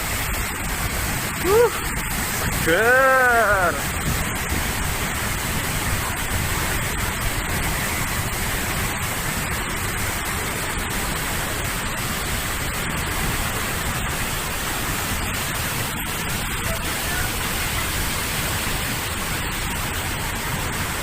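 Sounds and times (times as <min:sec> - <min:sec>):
waterfall pouring: 0:00.0 - 0:21.0.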